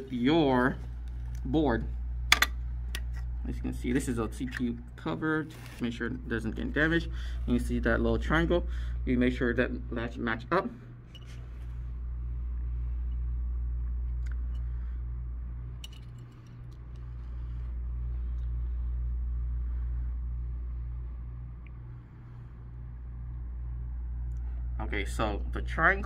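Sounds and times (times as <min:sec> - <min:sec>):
low pulsing hum: 0:00.0 - 0:26.0.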